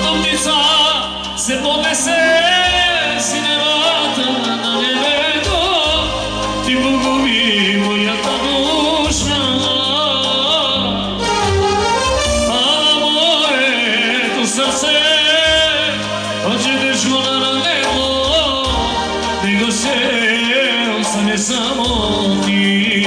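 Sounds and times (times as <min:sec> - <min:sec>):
synthesizer party band music: 0:00.0 - 0:23.0.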